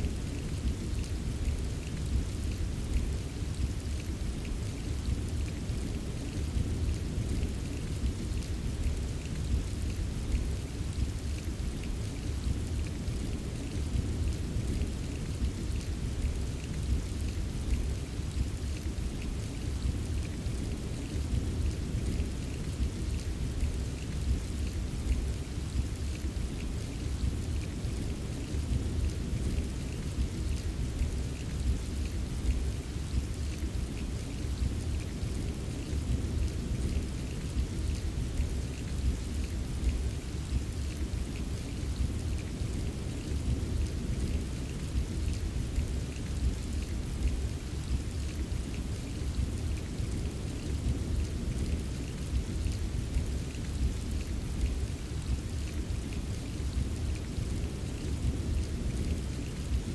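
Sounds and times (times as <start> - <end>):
rain drops ticking: 0.0 - 59.9.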